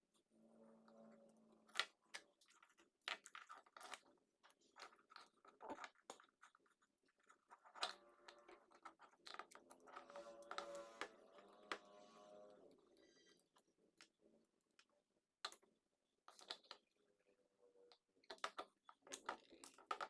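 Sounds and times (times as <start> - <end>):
small objects clicking and crunching: 0.9 - 17.0, 17.8 - 20.0.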